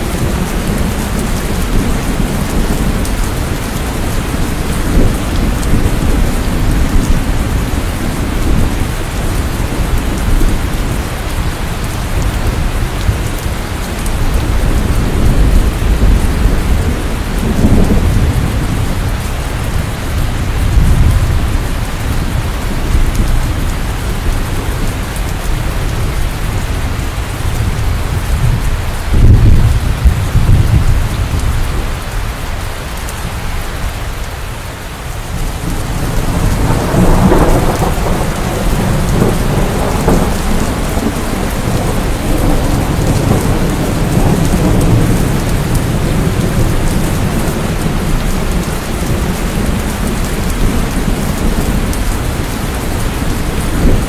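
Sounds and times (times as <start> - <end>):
thunder rumbling: 0.0 - 34.1, 35.0 - 54.0
steady rain falling: 0.0 - 54.0.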